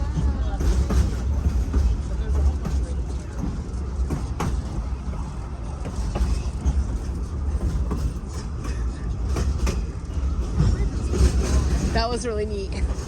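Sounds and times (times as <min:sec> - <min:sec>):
train rumbling on track: 0:00.0 - 0:13.0
train wheels clicking and knocking: 0:00.0 - 0:13.0.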